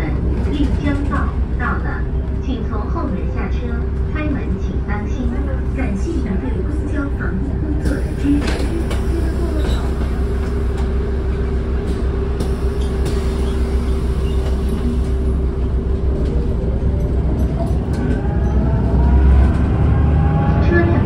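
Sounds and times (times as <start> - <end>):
bus ride rumble: 0.0 - 21.0.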